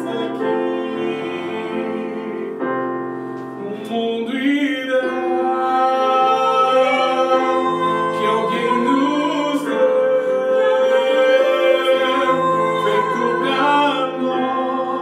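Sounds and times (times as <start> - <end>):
man and woman singing duet: 0.0 - 2.8, 3.6 - 15.0
digital piano accompaniment: 0.0 - 15.0.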